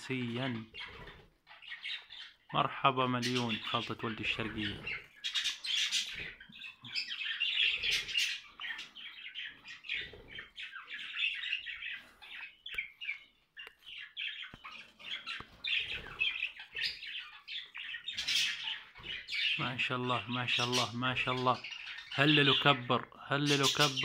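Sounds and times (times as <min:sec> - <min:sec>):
budgerigars chattering and warbling: 0:00.0 - 0:24.0.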